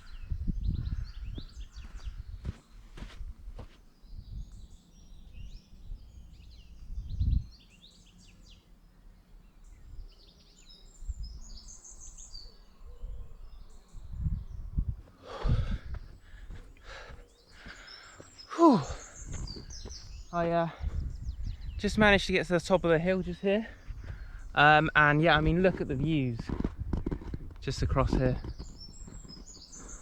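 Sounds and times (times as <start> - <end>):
wind buffeting microphone: 0.0 - 7.6, 10.9 - 18.0, 18.7 - 30.0
songbirds twittering: 0.0 - 30.0.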